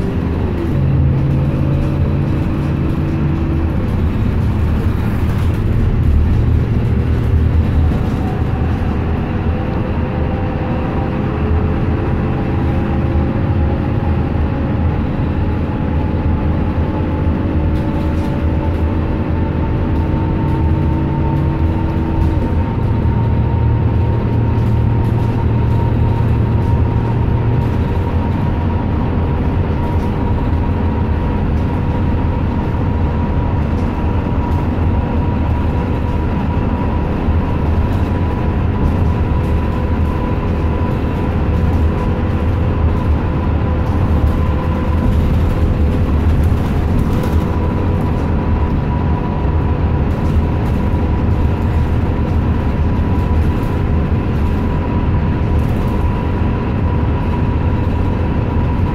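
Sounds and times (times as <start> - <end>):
bus engine and tyre rumble: 0.0 - 58.9.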